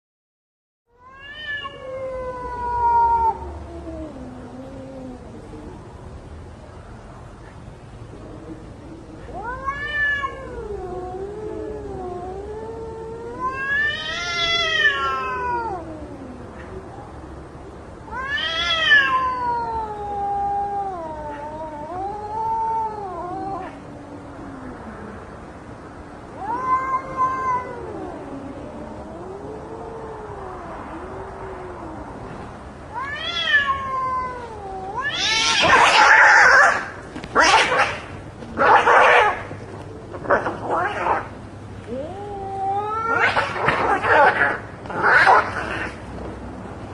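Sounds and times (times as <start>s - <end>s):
cats yowling in a fight: 1.0s - 6.0s, 8.5s - 46.5s.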